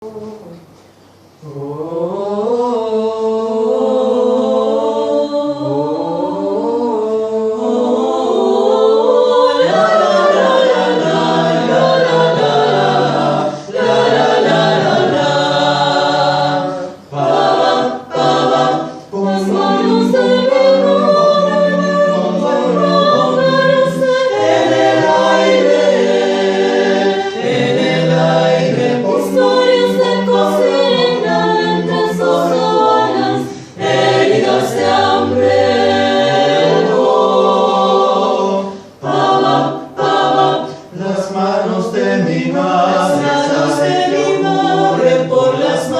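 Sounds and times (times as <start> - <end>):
choir singing a cappella: 0.0 - 45.9.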